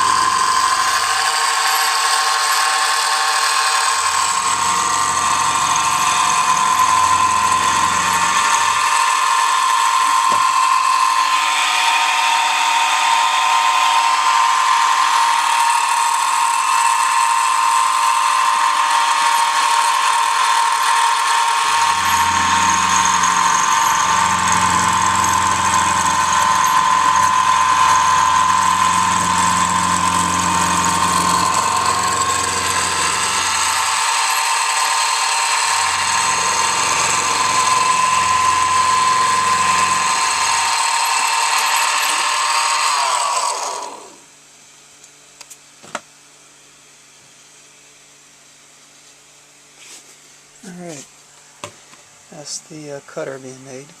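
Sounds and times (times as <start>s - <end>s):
milling machine high whine: 0.0s - 44.3s.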